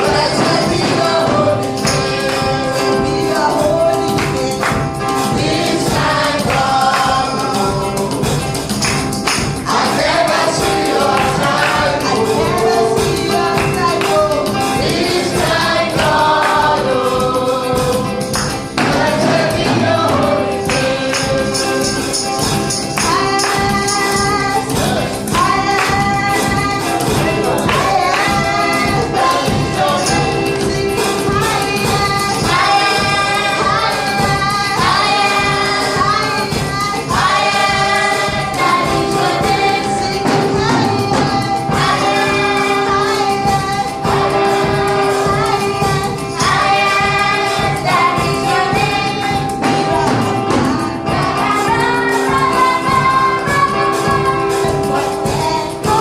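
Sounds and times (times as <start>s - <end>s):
choir singing gospel song: 0.0s - 56.0s.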